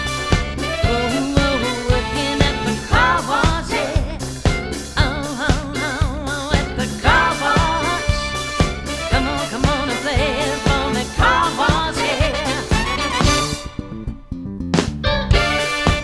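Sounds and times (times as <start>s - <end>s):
live band playing funk: 0.0s - 14.2s, 14.8s - 16.0s.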